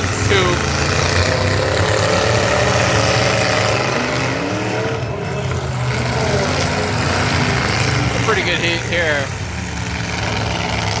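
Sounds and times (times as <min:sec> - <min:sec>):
truck engines revving: 0:00.0 - 0:11.0.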